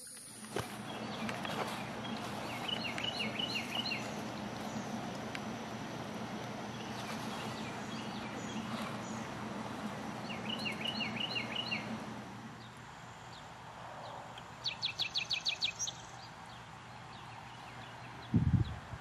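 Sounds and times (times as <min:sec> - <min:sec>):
low background hum: 0:00.0 - 0:19.0
songbirds singing: 0:00.0 - 0:19.0.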